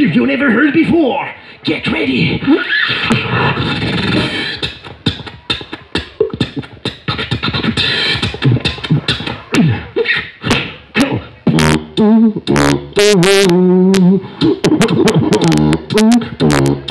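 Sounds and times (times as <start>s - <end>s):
person beatboxing: 1.7s - 16.9s.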